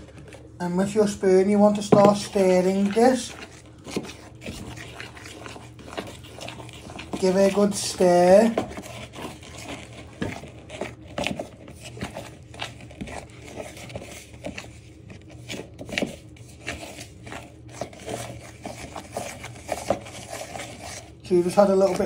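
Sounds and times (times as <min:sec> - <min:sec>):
spoon scraping plastic bowl: 0:00.0 - 0:22.0.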